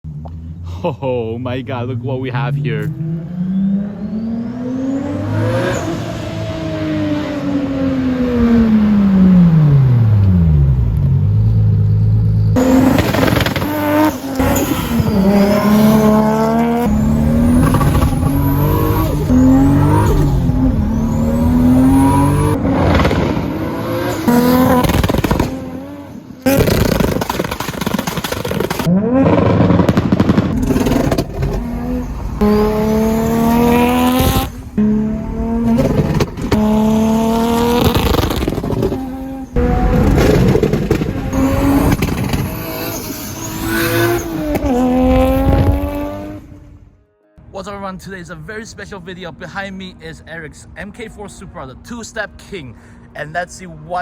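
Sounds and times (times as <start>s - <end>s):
turbo car engine revving: 2.3s - 46.9s.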